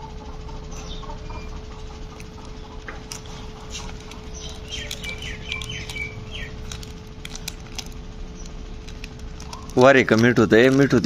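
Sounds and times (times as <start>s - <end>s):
bird chirping: 0.0s - 7.5s, 8.2s - 9.9s
faint steady hum: 0.0s - 11.0s.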